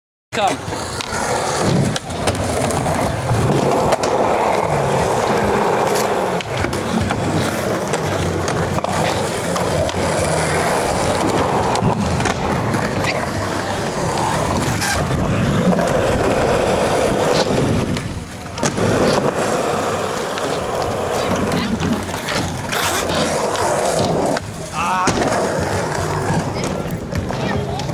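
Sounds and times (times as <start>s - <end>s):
skateboard wheels rolling on concrete: 0.3s - 27.9s
skateboard clacks: 0.4s - 27.9s.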